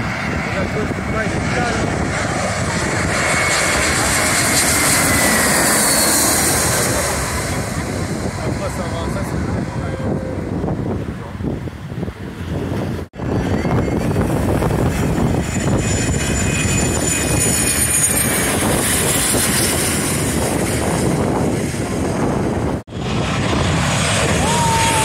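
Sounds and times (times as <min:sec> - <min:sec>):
jet engine roar with turbine whine: 0:00.0 - 0:25.0.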